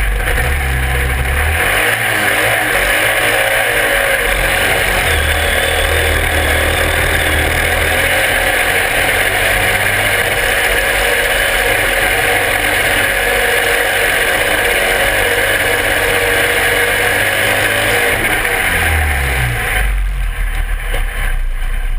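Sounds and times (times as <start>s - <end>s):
tractor engine running hard: 0.0s - 21.9s.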